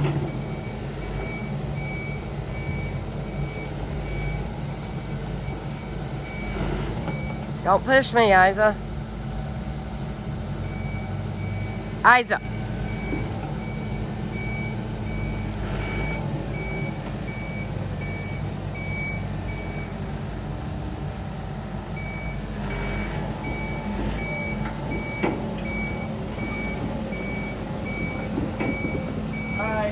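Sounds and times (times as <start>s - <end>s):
backup alarm beeping: 0.0s - 8.9s, 10.6s - 19.9s, 22.0s - 29.9s
diesel engine running: 0.0s - 29.9s.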